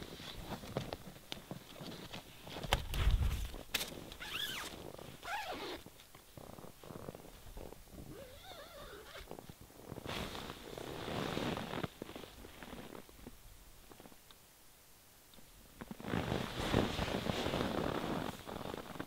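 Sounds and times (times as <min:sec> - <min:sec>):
fabric rustling and crinkling: 0:00.0 - 0:14.2, 0:15.8 - 0:19.0.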